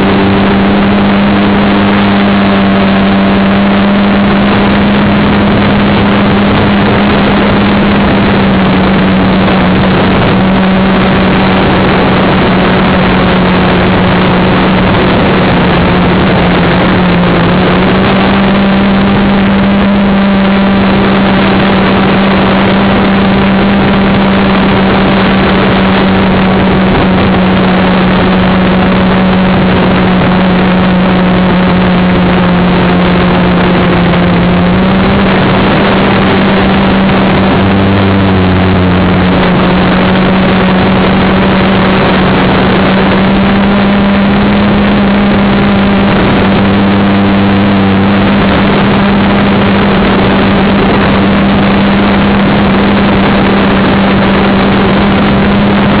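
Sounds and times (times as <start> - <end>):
quadcopter motors humming: 0.0 - 56.0.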